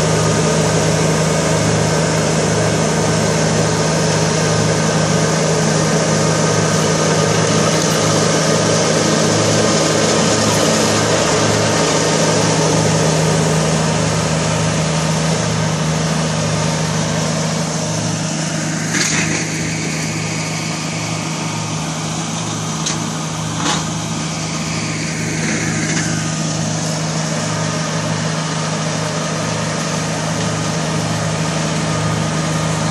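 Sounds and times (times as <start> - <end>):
mower cutting through weeds: 0.0 - 32.9
tractor diesel engine running: 0.0 - 32.9.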